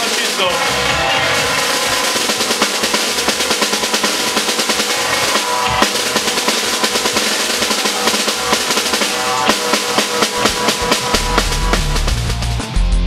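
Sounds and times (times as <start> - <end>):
snare drum rolls: 0.0 - 12.2
cymbals: 0.0 - 12.4.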